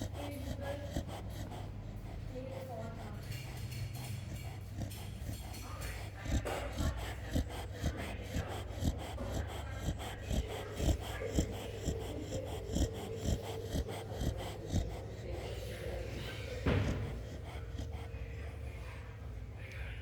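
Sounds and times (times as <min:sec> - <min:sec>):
dog snoring: 0:00.0 - 0:20.0.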